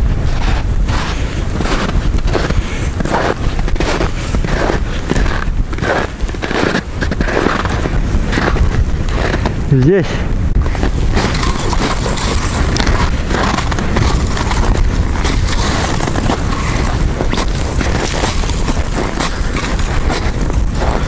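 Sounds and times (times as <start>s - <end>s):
blizzard wind buffeting microphone: 0.0s - 21.0s.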